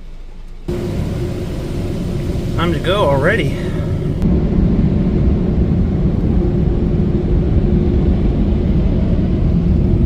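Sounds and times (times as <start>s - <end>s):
low rumble inside car: 0.0s - 10.0s.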